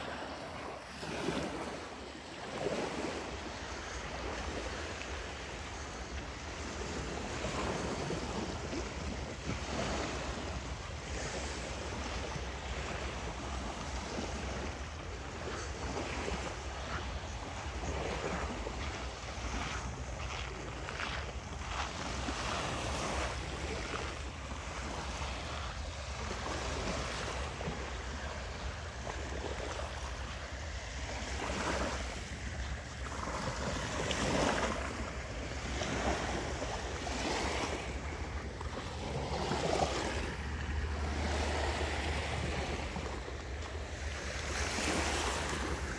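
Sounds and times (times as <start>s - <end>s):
waves washing onto beach: 0.0s - 45.9s
wind rumble on microphone: 0.0s - 45.9s.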